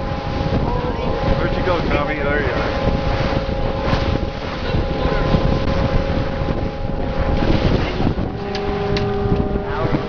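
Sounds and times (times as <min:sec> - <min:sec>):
boat motor droning: 0:00.0 - 0:10.0
wind rumbling on microphone: 0:00.0 - 0:10.0.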